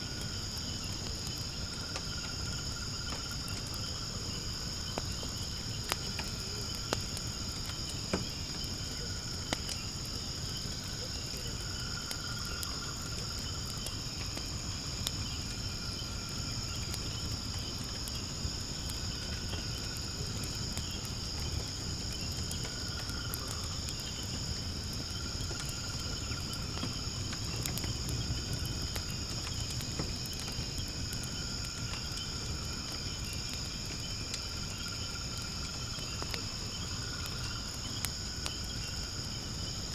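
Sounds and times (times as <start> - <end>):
firewood crackling and popping: 0.0 - 39.9
night insects chirring: 0.0 - 39.9.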